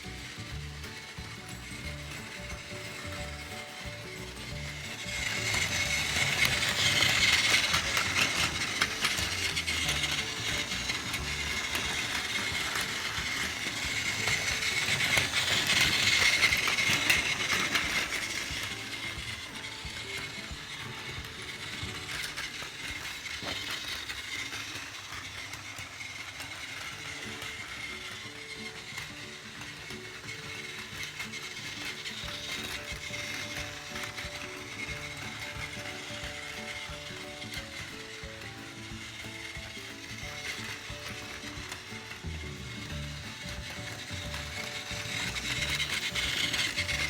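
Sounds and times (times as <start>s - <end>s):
toy train motor whining: 0.0s - 47.0s
wheels clicking over rail joints: 0.0s - 47.0s.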